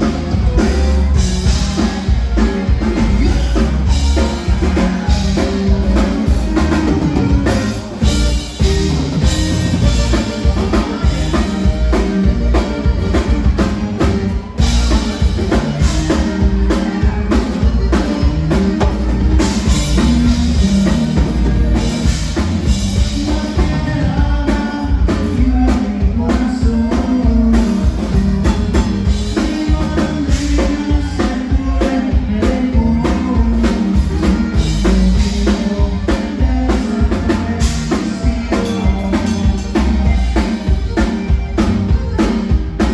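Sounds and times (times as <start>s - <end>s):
button accordion: 0.0s - 42.9s
drum kit beat: 0.0s - 42.9s
electric bass: 0.0s - 42.9s
guitar strumming: 0.0s - 42.9s.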